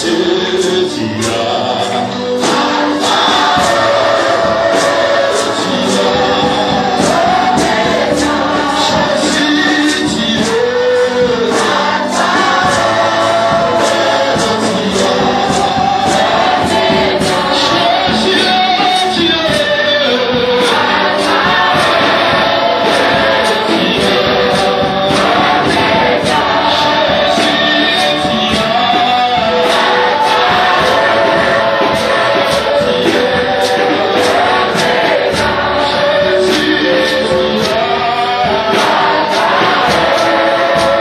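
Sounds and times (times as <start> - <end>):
band playing a steady beat: 0.0 - 41.0
choir singing: 0.0 - 41.0.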